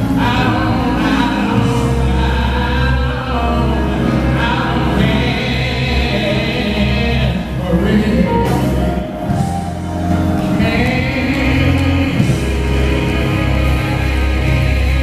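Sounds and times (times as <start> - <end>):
bass drums and keyboard: 0.0 - 15.0
man singing gospel: 0.0 - 15.0.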